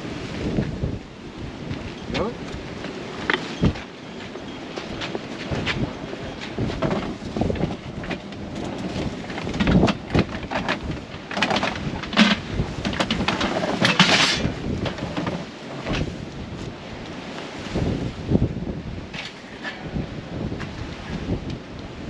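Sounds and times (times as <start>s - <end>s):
rain: 0.0s - 22.0s
wind gusting against microphone: 0.0s - 22.0s.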